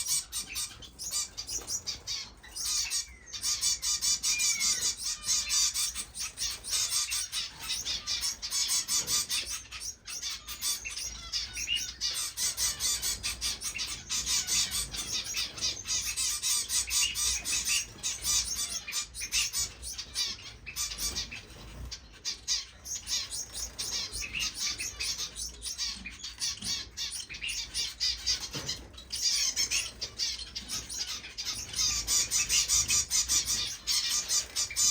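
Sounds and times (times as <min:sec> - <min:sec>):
finches chirping and twittering: 0:00.0 - 0:34.9.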